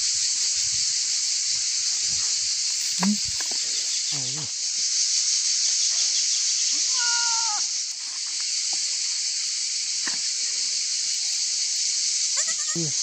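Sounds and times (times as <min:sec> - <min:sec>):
cicadas hissing: 0:00.0 - 0:13.0.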